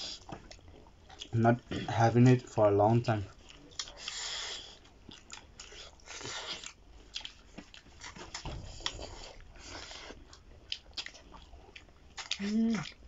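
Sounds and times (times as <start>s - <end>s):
chewing and lip-smacking: 0.0s - 2.4s, 3.2s - 13.0s.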